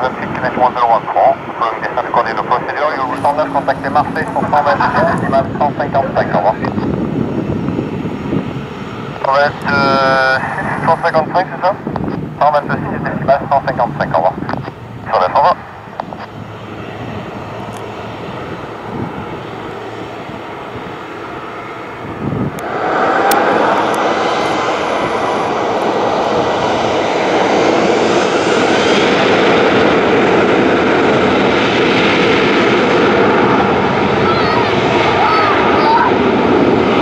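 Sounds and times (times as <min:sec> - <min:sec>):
faint rising engine whine: 0:00.0 - 0:37.0
jet engines spooling up: 0:00.0 - 0:37.0.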